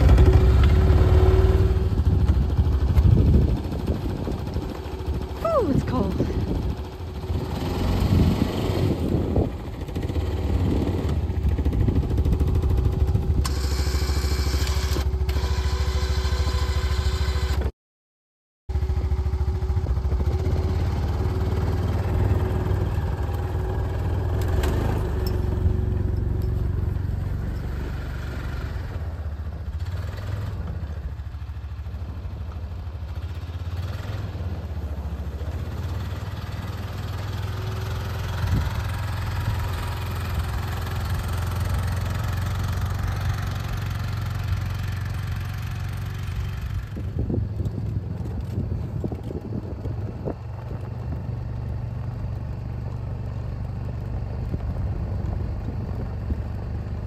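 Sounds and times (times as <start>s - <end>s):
engine running with low drone: 0.0s - 17.7s, 18.7s - 57.0s.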